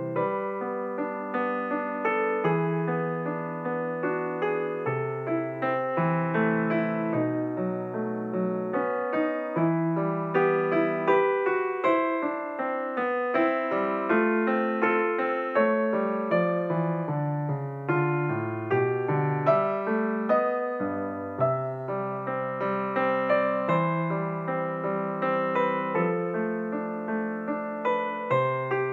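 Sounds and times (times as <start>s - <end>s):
piano music: 0.0s - 28.9s.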